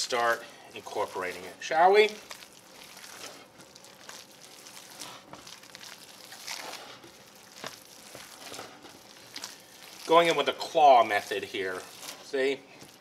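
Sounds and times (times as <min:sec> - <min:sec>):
hands squishing raw meat: 0:00.0 - 0:13.0.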